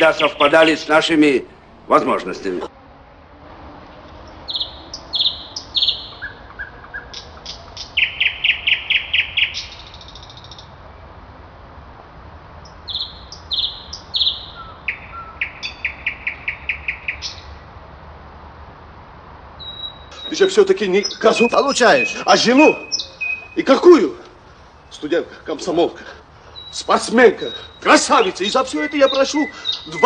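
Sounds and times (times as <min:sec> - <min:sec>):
songbird singing: 0:00.0 - 0:02.7, 0:04.0 - 0:11.0, 0:12.6 - 0:17.7, 0:19.6 - 0:30.0.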